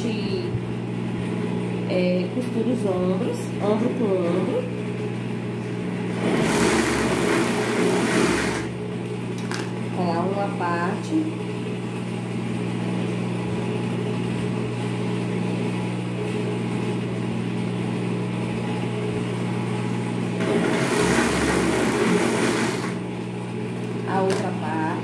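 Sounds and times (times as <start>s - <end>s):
serger motor hum: 0.0s - 25.0s
serger stitching whirr: 3.6s - 25.0s.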